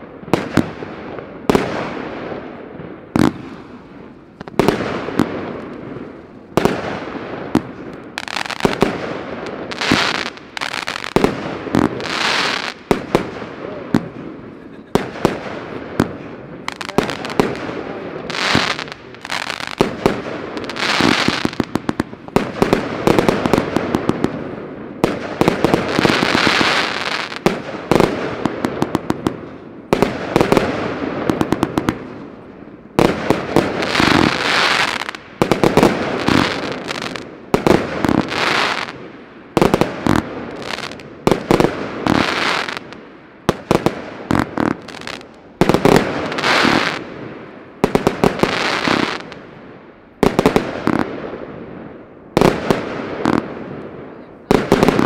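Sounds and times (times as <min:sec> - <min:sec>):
fireworks hissing and crackling: 0:00.0 - 0:51.6, 0:52.4 - 0:55.0
fireworks shots and bursts: 0:00.0 - 0:55.0.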